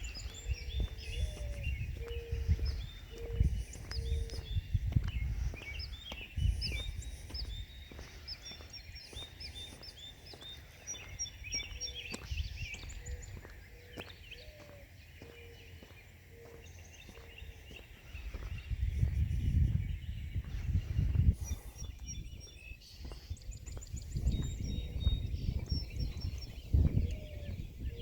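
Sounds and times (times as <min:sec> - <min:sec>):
birds chirping and singing: 0:00.0 - 0:28.0
wind rumble on microphone: 0:00.0 - 0:28.0.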